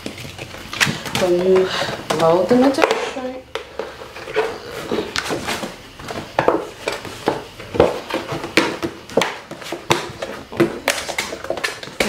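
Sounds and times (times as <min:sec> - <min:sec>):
plastic sheet crackling and popping: 0:00.0 - 0:03.4, 0:04.8 - 0:12.0.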